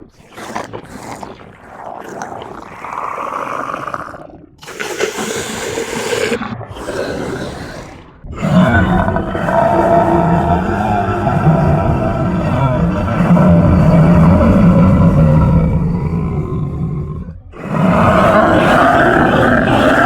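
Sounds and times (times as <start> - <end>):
monster growls and roars: 0.0 - 20.0.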